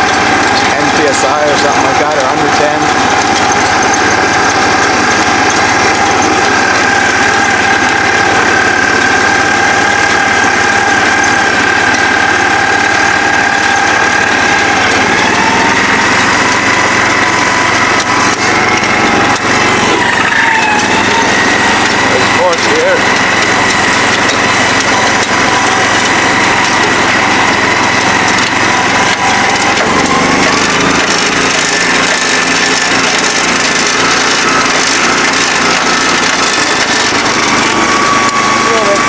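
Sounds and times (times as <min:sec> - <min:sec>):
lawn tractor engine running: 0:00.0 - 0:39.0.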